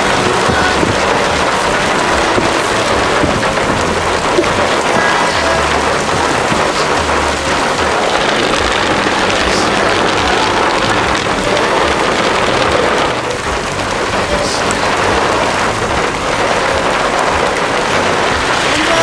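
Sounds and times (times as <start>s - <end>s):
heavy rain falling: 0.0s - 19.0s
low rumbling: 0.0s - 19.0s.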